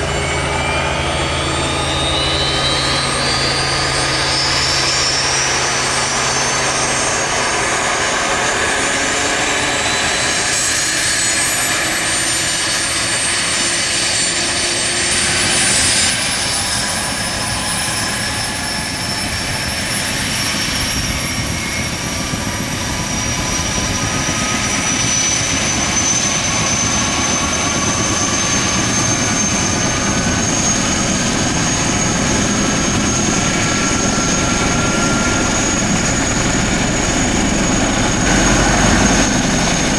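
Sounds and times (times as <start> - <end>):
helicopter rotors rushing: 0.0 - 39.9
helicopter turbine whine: 0.0 - 39.9.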